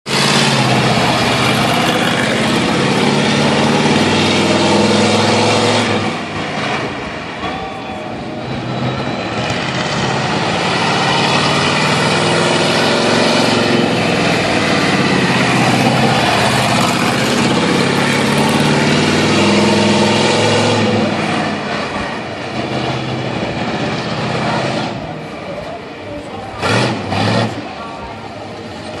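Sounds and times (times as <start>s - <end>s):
monster truck engine revving: 0.0s - 7.5s, 8.2s - 29.0s.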